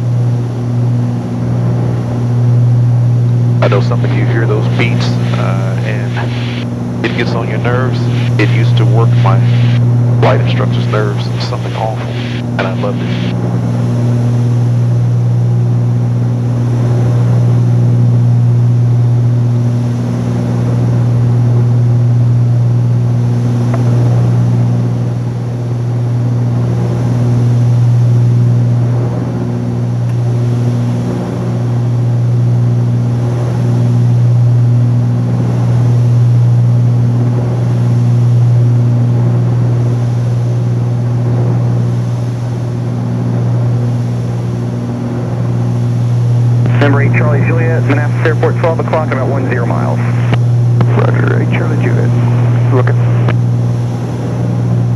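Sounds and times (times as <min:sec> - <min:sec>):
aircraft engines droning: 0:00.0 - 0:54.9.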